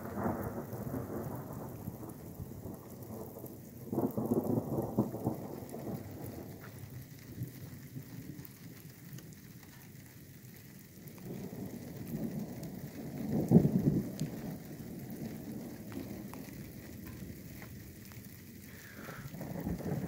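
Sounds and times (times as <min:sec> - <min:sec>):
distant thunder rumbling: 0:00.0 - 0:09.7, 0:11.0 - 0:20.0
light rain falling: 0:00.0 - 0:20.0
raindrops ticking: 0:00.0 - 0:20.0.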